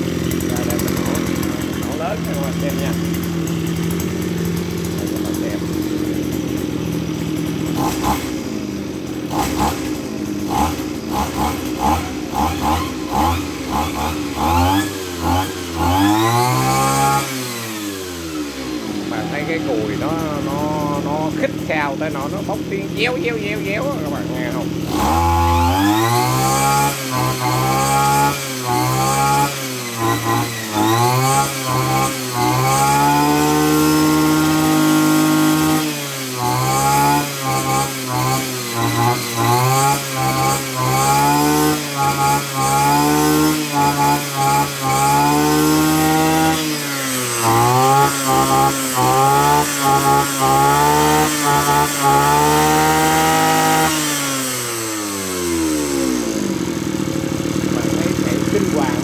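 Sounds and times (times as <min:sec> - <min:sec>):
brush cutter engine revving: 0:00.0 - 0:59.0.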